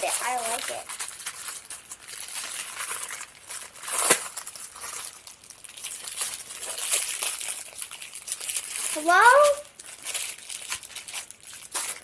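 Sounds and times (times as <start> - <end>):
plastic packaging crinkling: 0.0 - 12.0
sharp crackle: 0.0 - 12.0.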